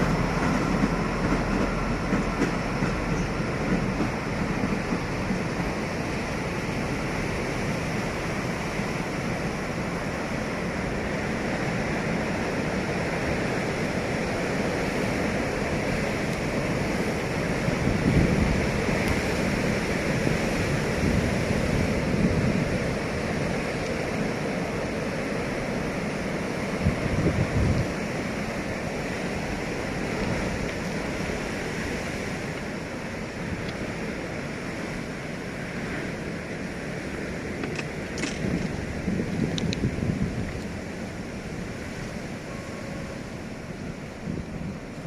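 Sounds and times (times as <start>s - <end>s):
steady rushing noise: 0.0s - 45.0s.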